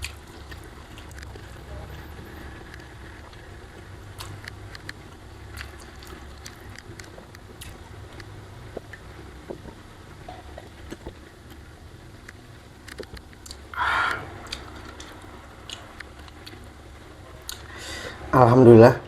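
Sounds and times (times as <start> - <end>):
eating and chewing: 0.0 - 18.3
steady low hum: 0.0 - 19.0.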